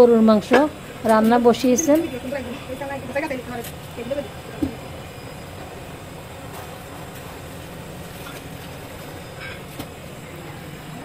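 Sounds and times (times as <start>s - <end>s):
meat cooking in a pot: 0.0s - 11.0s.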